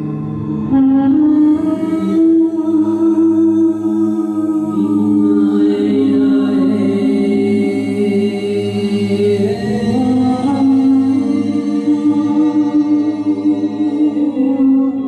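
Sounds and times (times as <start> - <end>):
low steady drone: 0.0 - 15.0.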